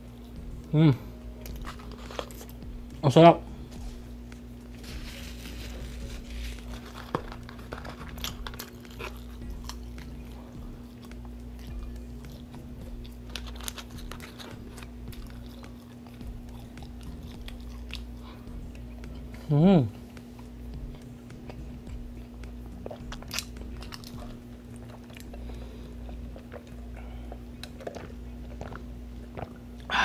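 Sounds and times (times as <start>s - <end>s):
close chewing and crunching: 0.0s - 30.0s
low electrical hum: 0.0s - 30.0s.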